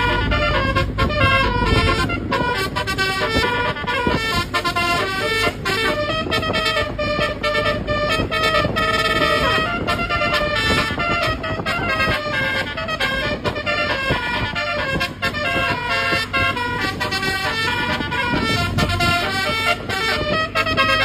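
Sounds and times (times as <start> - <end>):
bus horn playing a tune: 0.0 - 21.0
low background rumble: 0.0 - 21.0.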